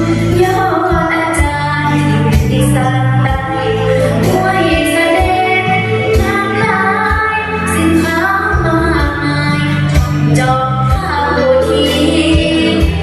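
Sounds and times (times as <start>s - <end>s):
bass and drums accompaniment: 0.0s - 13.0s
girl singing into a microphone: 0.0s - 13.0s.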